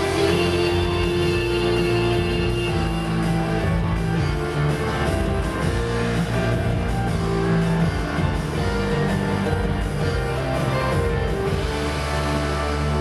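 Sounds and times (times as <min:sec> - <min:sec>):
pop music with steady beat: 0:00.0 - 0:13.0.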